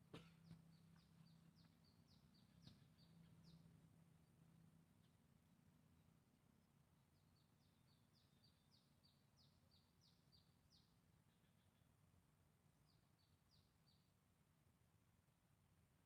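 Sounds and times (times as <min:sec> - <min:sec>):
faint bird song: 0:00.0 - 0:16.0.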